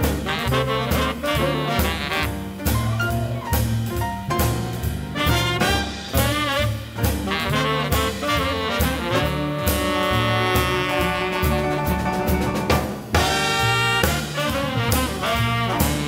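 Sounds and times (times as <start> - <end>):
small jazz combo playing: 0.0 - 16.0.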